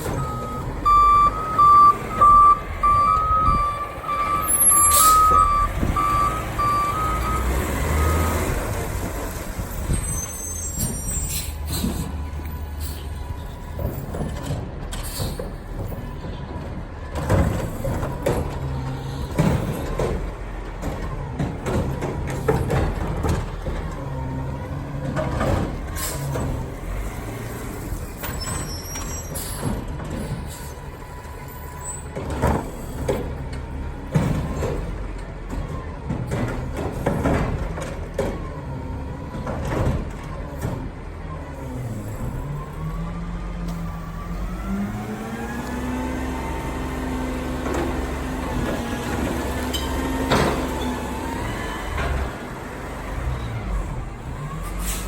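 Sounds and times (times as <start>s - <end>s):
garbage truck engine hum: 0.0s - 55.0s.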